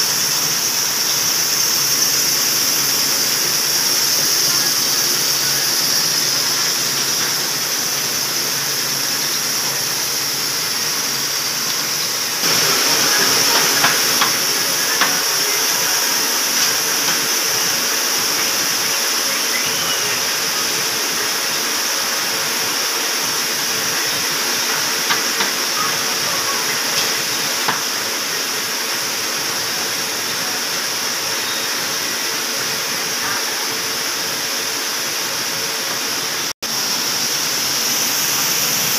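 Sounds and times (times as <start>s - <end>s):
machine hum with high hiss: 0.0s - 38.9s.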